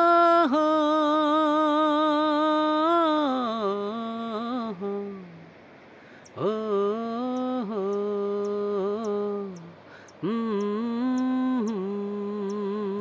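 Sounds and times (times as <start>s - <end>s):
person singing wordless melody: 0.0s - 13.0s.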